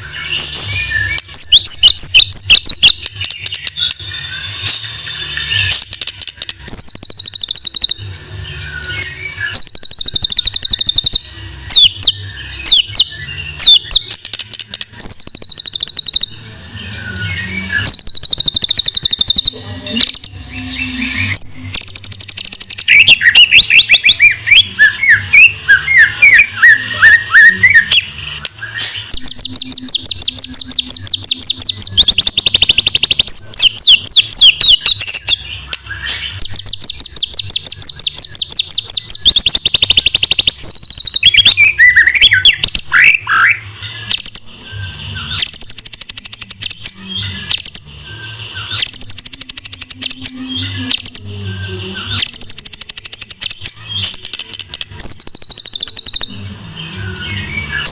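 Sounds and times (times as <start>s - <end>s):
bird singing fast trills: 0.0s - 57.9s.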